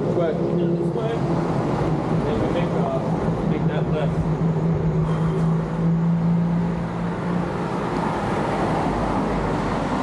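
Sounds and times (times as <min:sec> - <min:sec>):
engine low hum: 0:00.0 - 0:10.0
passing vehicles road noise: 0:00.0 - 0:10.0.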